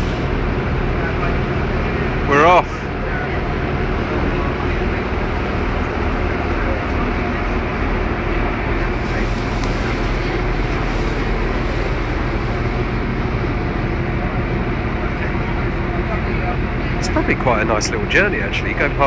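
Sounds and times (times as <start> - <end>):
boat engines droning: 0.0 - 19.0
rushing water from wake: 0.0 - 19.0.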